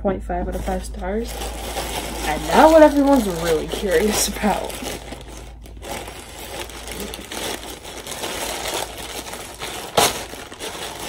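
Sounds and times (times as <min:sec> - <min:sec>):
wrapping rustling and crinkling: 0:00.5 - 0:11.0.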